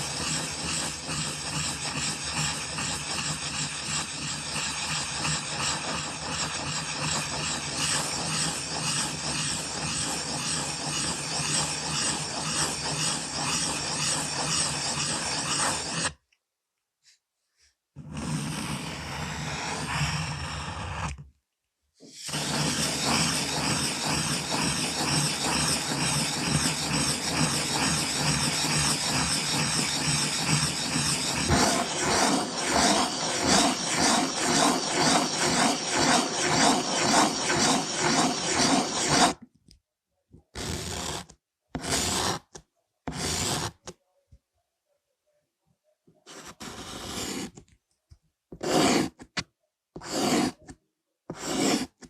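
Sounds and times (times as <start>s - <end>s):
pencil scratching on paper: 0.0s - 16.2s, 18.0s - 21.2s, 22.0s - 39.4s, 40.5s - 44.0s, 46.2s - 47.6s, 48.6s - 52.0s.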